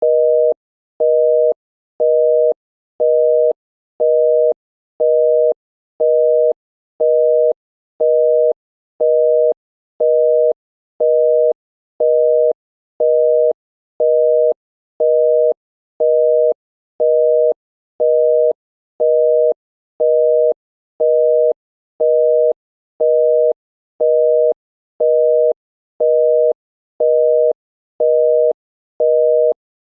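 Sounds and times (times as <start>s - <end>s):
telephone busy tone: 0.0s - 29.6s.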